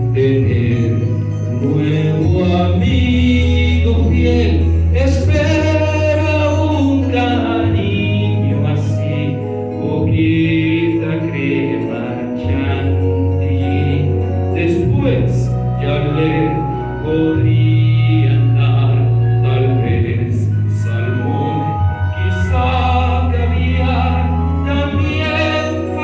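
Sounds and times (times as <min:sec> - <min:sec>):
chorus singing: 0:00.0 - 0:26.0
instrumental accompaniment with heavy bass: 0:00.0 - 0:26.0.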